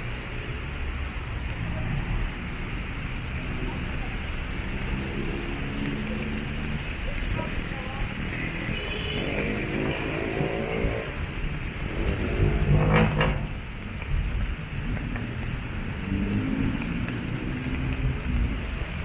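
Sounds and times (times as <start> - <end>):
steady low traffic rumble: 0.0 - 19.0
vehicle engines passing: 0.0 - 19.0.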